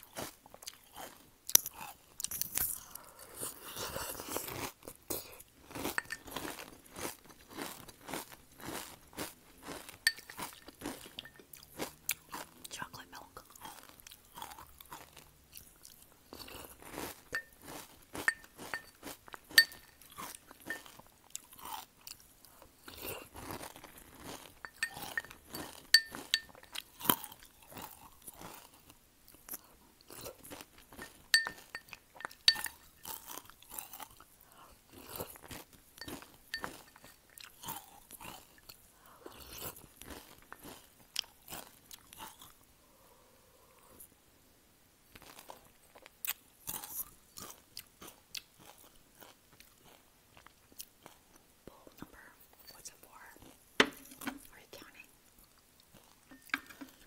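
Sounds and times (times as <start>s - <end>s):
chewing crunchy cereal: 0.0s - 42.6s, 45.1s - 57.0s.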